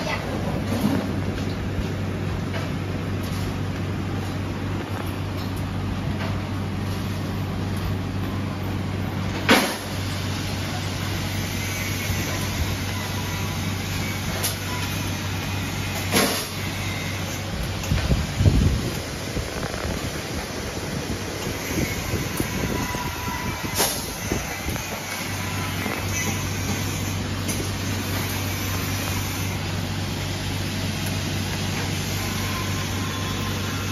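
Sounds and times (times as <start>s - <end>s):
factory machinery humming: 0.0s - 33.9s.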